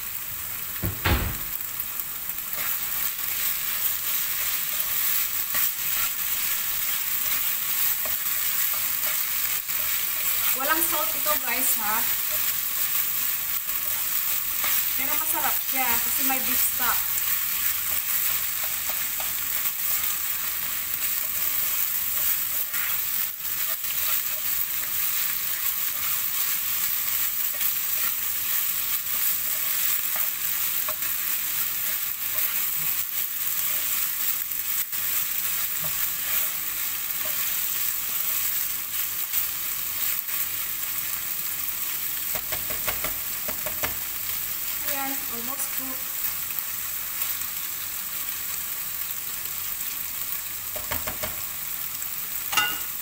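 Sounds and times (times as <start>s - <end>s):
meat sizzling in a pan: 0.0s - 53.0s.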